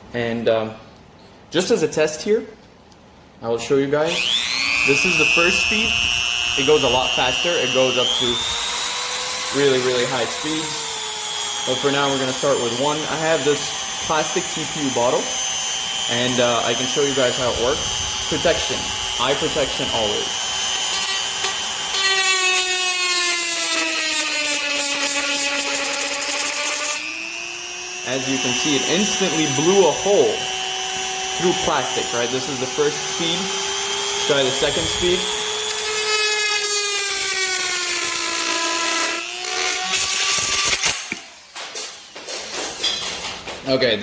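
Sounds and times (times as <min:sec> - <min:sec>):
rotary tool whining: 0:04.1 - 0:41.6.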